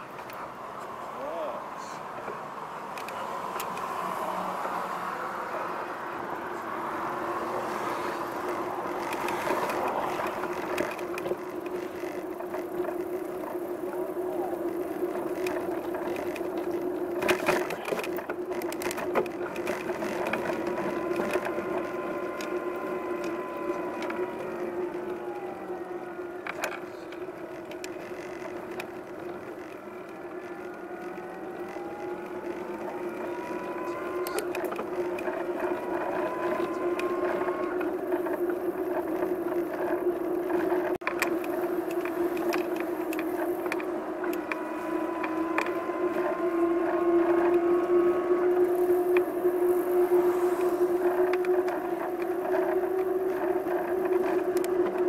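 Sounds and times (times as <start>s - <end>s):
whine sliding in pitch: 3.3s - 55.0s.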